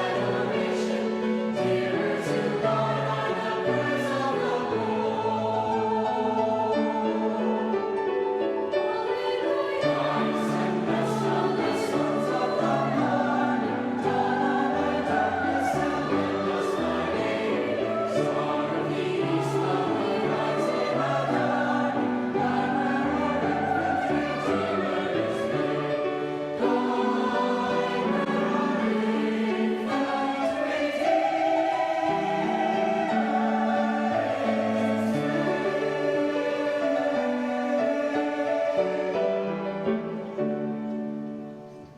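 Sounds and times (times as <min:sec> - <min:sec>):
youth choir singing: 0:00.0 - 0:40.8.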